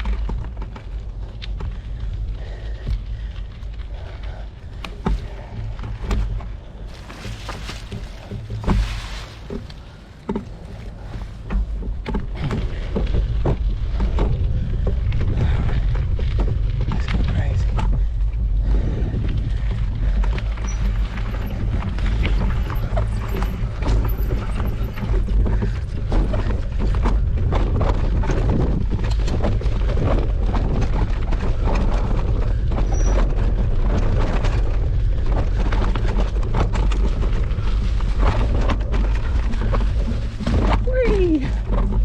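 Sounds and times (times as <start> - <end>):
bike rattling and knocking: 0.0 - 42.0
bike tyres crunching on dirt: 0.0 - 42.0
wind rumble on microphone: 0.0 - 42.0.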